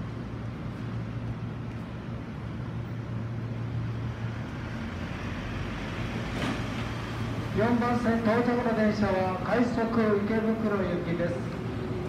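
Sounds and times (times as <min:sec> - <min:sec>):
electric train approaching: 0:00.0 - 0:12.0
traffic background: 0:00.0 - 0:12.0.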